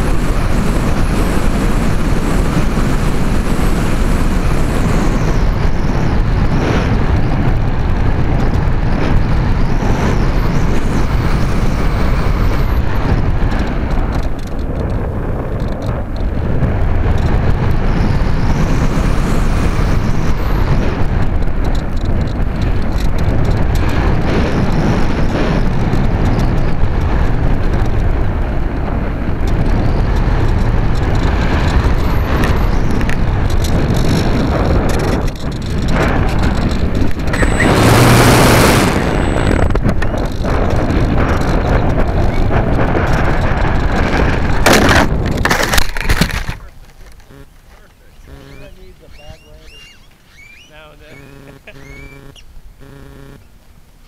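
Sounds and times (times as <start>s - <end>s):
airflow rushing over camera: 0.0s - 45.7s.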